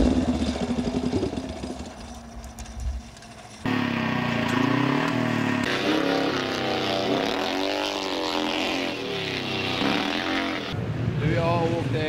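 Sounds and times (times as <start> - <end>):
motorcycle engine revving: 0.0 - 2.3, 3.4 - 10.8.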